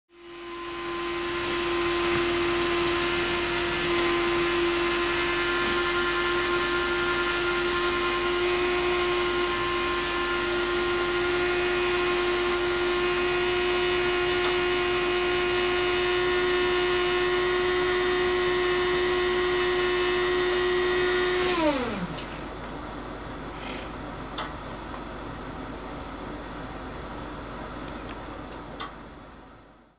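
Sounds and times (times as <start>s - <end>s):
droning hum with whining tones: 0.2s - 29.9s.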